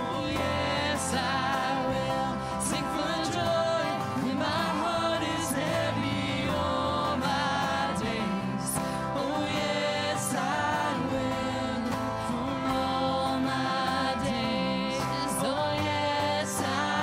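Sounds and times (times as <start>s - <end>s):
voices singing held notes: 0.0s - 17.0s.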